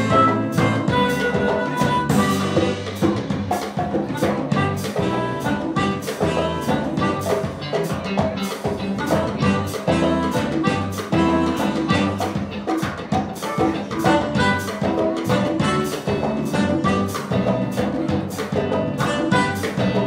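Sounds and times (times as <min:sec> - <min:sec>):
harmonica: 0:00.0 - 0:03.2, 0:03.9 - 0:08.0, 0:08.8 - 0:12.8, 0:13.5 - 0:18.2, 0:18.8 - 0:20.0
saxophone: 0:00.0 - 0:03.3, 0:03.9 - 0:20.0
jazz-funk band playing: 0:00.0 - 0:20.0.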